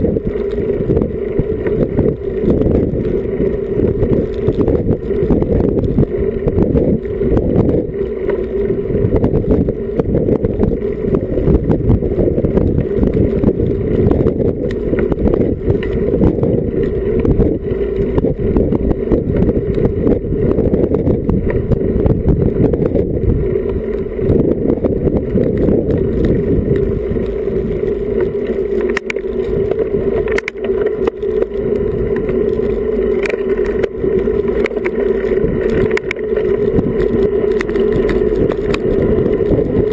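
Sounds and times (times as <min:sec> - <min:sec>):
road rumble: 0:00.0 - 0:39.9
wind buffeting microphone: 0:00.0 - 0:39.9.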